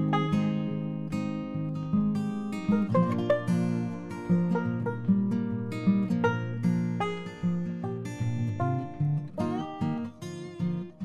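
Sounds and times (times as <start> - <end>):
guitar plucking a melody: 0.0 - 11.0.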